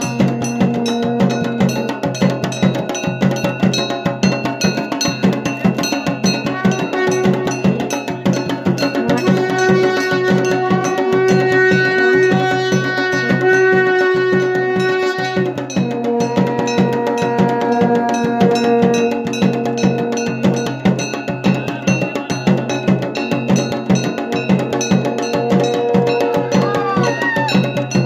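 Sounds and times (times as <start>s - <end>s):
fast drum beat: 0.0s - 28.0s.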